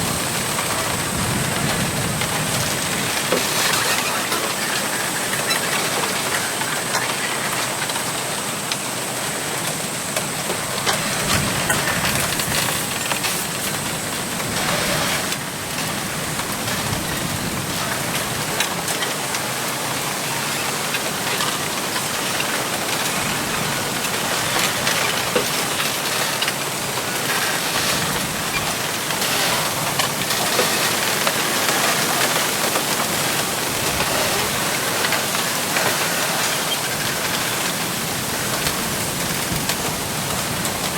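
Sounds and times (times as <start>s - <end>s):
wind rustling bamboo leaves: 0.0s - 40.9s.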